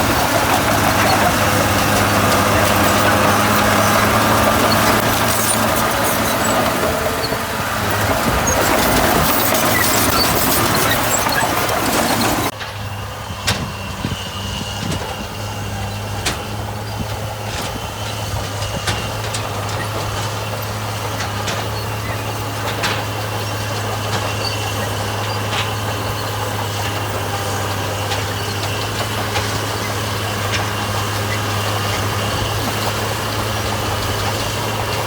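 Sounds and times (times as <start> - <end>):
diesel engine running with deep hum: 0.0 - 35.0.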